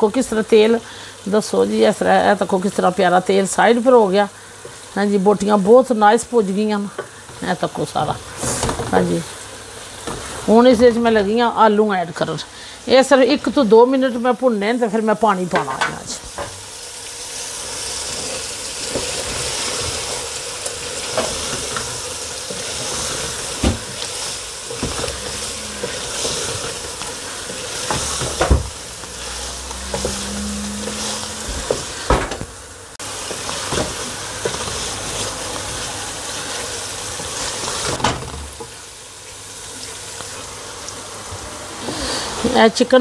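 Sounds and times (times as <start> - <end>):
curry sizzling in a pot: 0.0 - 43.0.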